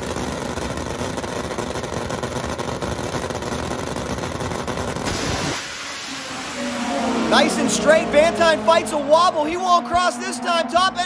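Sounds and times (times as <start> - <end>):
drag motorcycle engines droning: 0.0 - 11.0.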